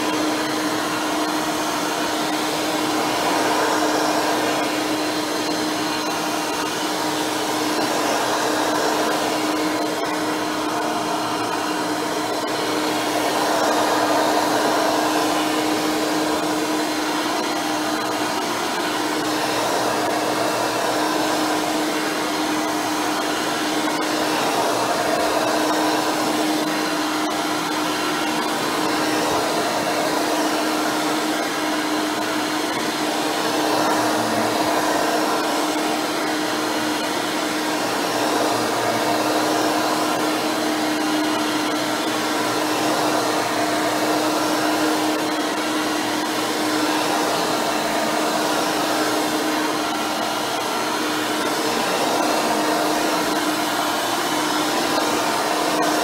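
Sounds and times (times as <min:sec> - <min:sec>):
vacuum cleaner motor whir: 0:00.0 - 0:56.0.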